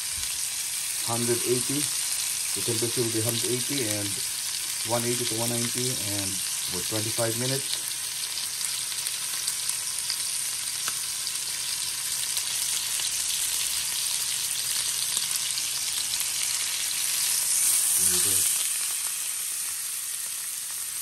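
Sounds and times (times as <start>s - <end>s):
meat sizzling in oil: 0.0s - 21.0s.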